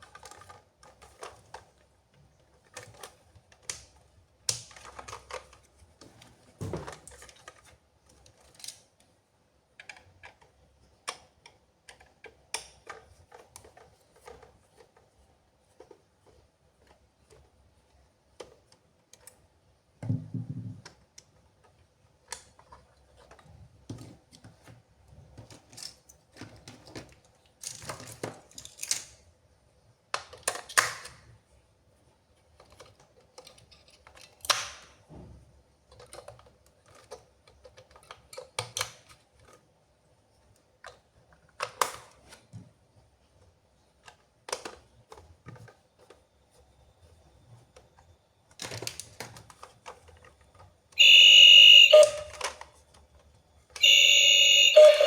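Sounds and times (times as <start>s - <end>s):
plastic parts clicking and tapping: 0.0s - 29.3s, 30.1s - 31.4s, 32.4s - 39.8s, 40.4s - 46.6s, 47.2s - 54.6s.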